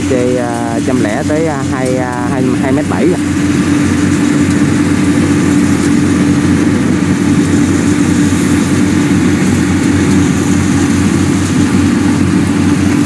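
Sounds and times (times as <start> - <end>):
combine harvester engine droning: 0.0 - 13.0.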